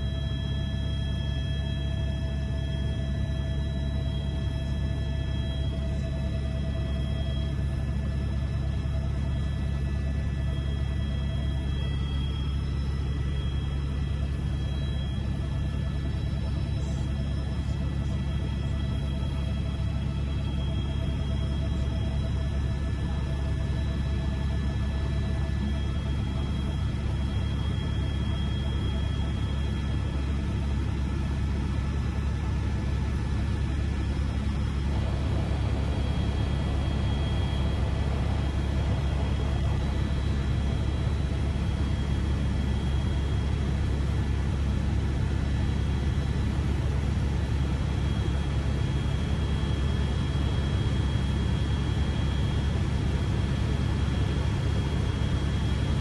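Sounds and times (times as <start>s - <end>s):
faint high whine: 0.0s - 56.0s
helicopter engine and rotor rumble: 0.0s - 56.0s.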